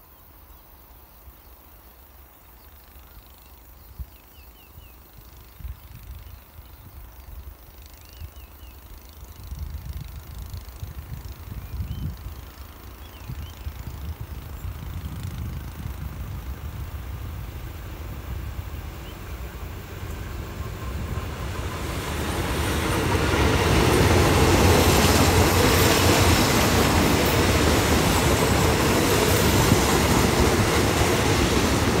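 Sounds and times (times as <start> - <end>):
train wheels rolling on rails: 5.0 - 32.0.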